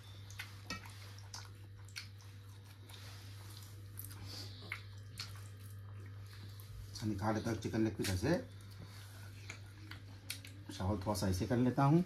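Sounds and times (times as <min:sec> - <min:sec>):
food handling clicks and squishes: 0:00.0 - 0:06.7, 0:07.8 - 0:10.9
chewing: 0:00.0 - 0:06.9, 0:08.0 - 0:10.8
steady low hum: 0:00.0 - 0:12.0.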